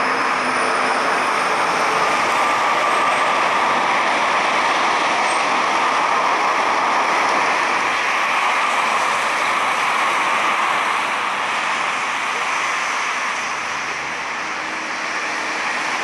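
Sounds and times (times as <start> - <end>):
jet engines at taxi power: 0.0 - 16.0.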